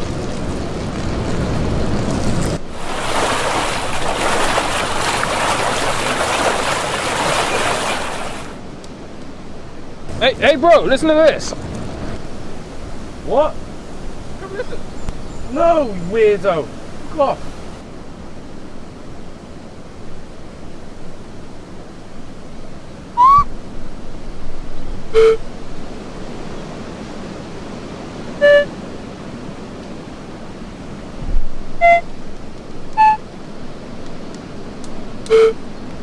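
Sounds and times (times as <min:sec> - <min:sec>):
steady outdoor hiss: 0:00.0 - 0:36.0.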